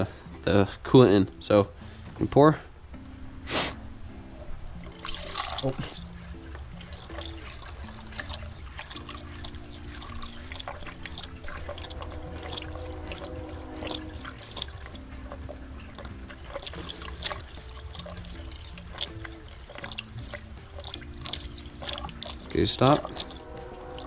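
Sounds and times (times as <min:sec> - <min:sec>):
low steady hum: 0:00.0 - 0:24.0
liquid trickling through a funnel: 0:04.5 - 0:24.0.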